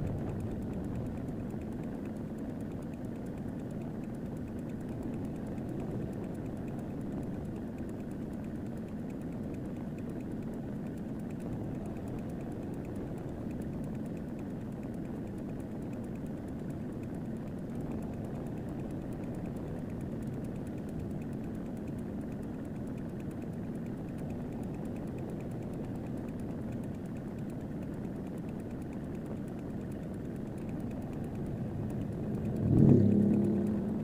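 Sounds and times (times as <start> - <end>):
low outdoor rumble: 0.0 - 10.2, 14.7 - 34.0.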